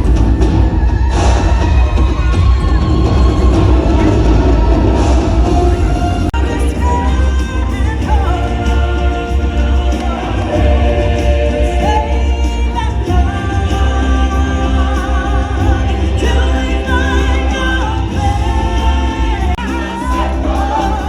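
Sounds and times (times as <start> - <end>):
music with singing voices: 0.0 - 21.0
strong bass line: 0.0 - 21.0.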